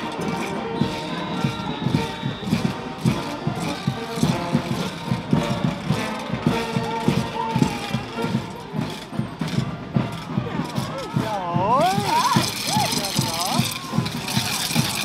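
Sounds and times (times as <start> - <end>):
parade band music: 0.0 - 15.0
steady drumbeat: 0.0 - 15.0.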